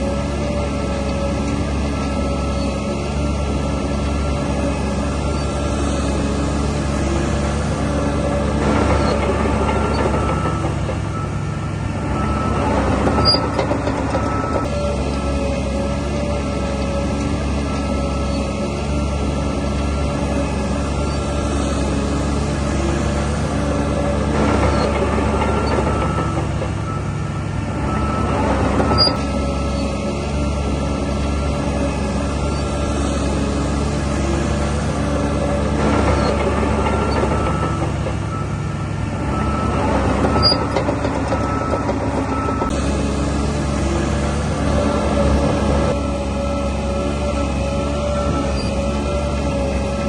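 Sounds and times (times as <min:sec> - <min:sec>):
bulldozer diesel engine running: 0:00.0 - 0:50.0.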